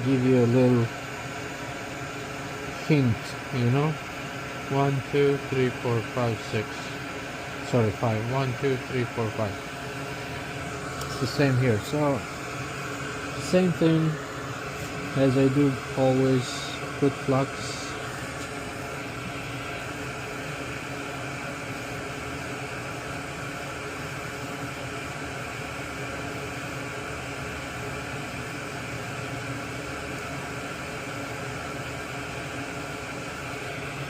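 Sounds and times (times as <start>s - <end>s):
fan motor whirring hum: 0.0s - 34.0s.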